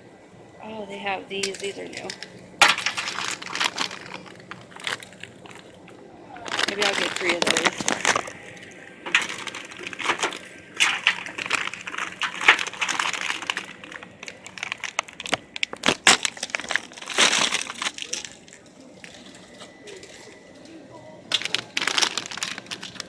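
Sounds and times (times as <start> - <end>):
plastic packaging crinkling: 1.0 - 23.0.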